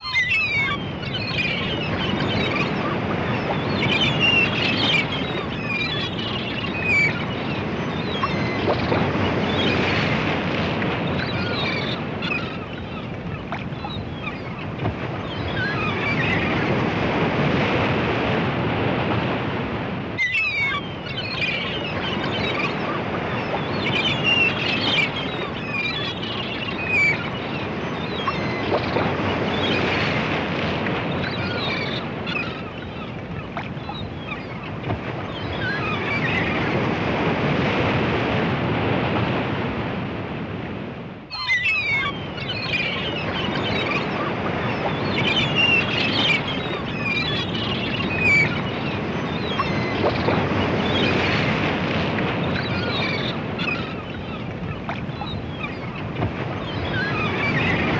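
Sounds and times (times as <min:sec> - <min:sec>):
gulls calling: 0:00.0 - 0:17.9, 0:20.2 - 0:37.6, 0:41.3 - 0:57.9
ocean waves on shore: 0:00.0 - 0:57.9.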